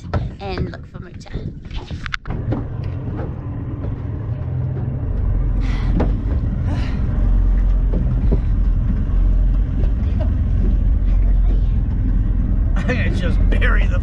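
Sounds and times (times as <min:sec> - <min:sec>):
outboard motor rumbling: 0:00.0 - 0:14.0
wind buffeting microphone: 0:00.0 - 0:14.0.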